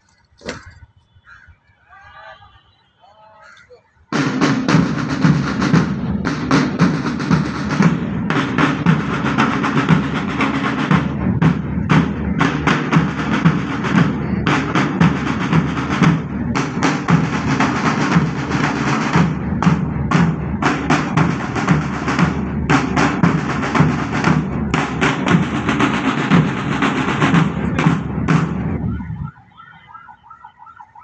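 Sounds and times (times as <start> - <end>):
marching drum band: 4.1 - 29.3.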